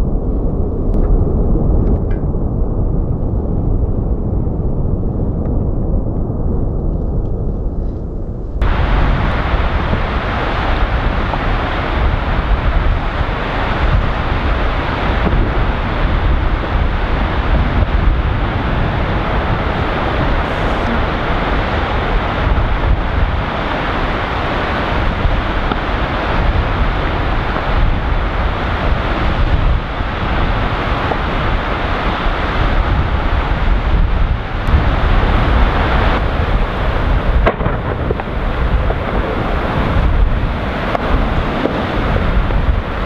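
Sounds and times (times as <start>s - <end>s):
deep rumble of iceberg: 0.0s - 43.0s
wind buffeting microphone: 0.0s - 43.0s.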